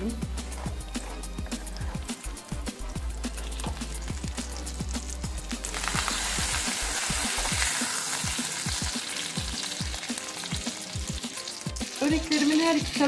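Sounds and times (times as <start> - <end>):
background music with steady beat: 0.0 - 13.0
food sizzling in oil: 0.0 - 13.0.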